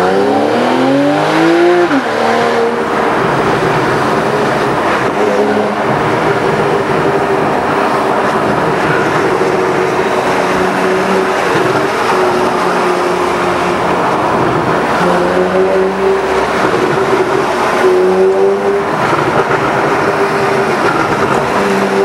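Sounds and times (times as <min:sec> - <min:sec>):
car engine and exhaust from cabin: 0:00.0 - 0:22.0
road and tyre noise: 0:00.0 - 0:22.0.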